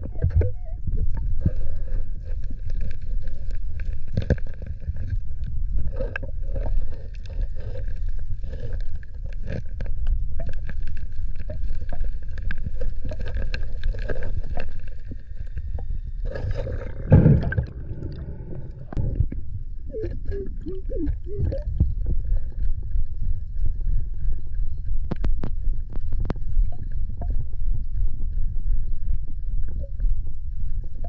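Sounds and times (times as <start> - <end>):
underwater rumble of moving water: 0.0 - 31.0.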